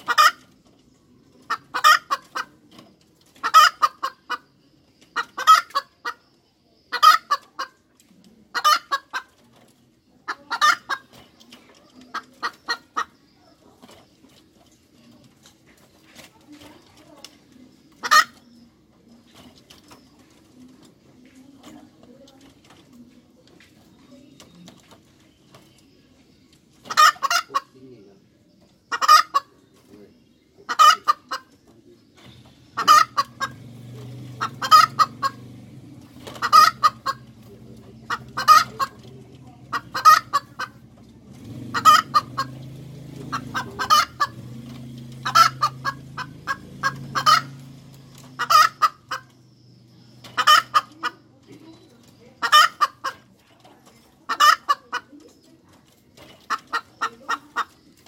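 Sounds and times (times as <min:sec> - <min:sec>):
hen clucking: 0:00.0 - 0:58.0.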